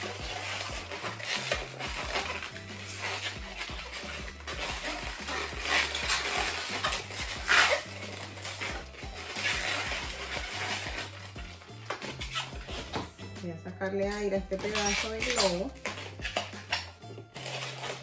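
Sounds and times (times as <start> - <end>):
balloon latex rubbing and squeaking: 0.0 - 18.0
soft background music: 0.0 - 18.0.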